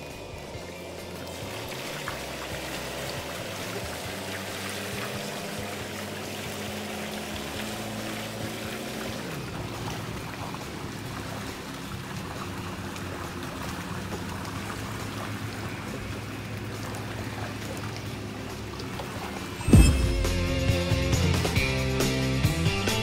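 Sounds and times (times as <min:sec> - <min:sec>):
music: 0:00.0 - 0:07.8, 0:08.5 - 0:23.0
boat engine running: 0:00.0 - 0:22.3.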